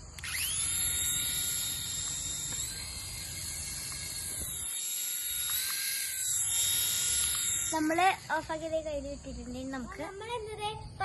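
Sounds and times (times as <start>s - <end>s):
toy helicopter motors whining: 0.0s - 10.8s.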